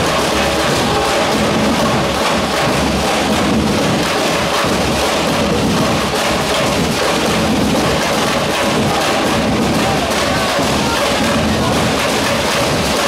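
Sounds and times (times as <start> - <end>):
drum corps drumming: 0.0 - 13.0.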